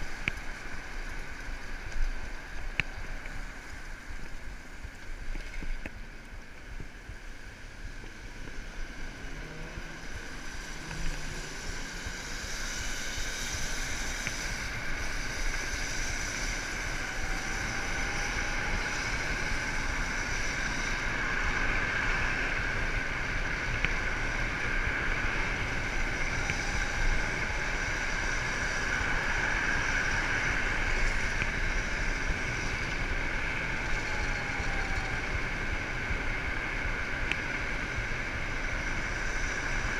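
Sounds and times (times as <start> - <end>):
steady high whine: 0.0 - 39.9
traffic noise: 0.0 - 39.9
wind rushing over microphone: 0.0 - 39.9.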